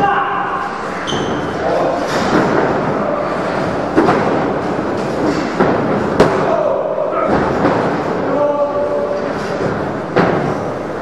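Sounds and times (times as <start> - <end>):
echoing din in large hall: 0.0 - 11.0
wrestlers hitting ring canvas: 1.2 - 8.6, 9.3 - 10.8.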